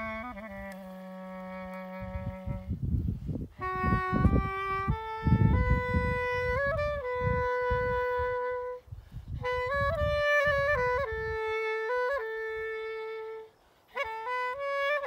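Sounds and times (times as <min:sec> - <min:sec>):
wind gusts on microphone: 0:00.0 - 0:13.2
clarinet playing slow melody: 0:00.0 - 0:15.0.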